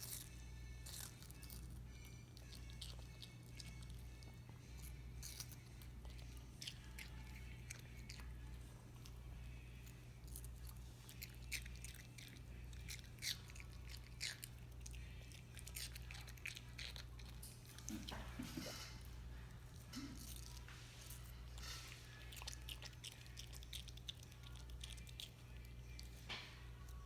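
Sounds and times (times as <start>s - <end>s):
dog chewing watermelon: 0.8s - 26.2s.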